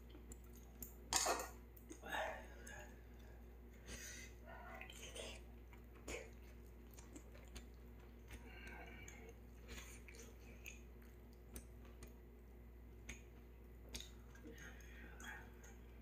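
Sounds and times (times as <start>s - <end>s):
faint chewing of noodles: 0.0s - 16.0s.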